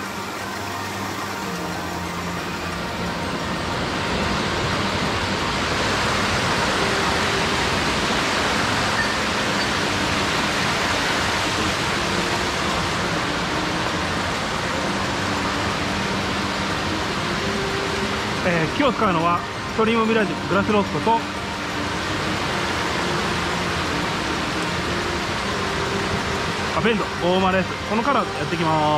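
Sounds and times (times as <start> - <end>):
rushing stream water: 0.0 - 28.9.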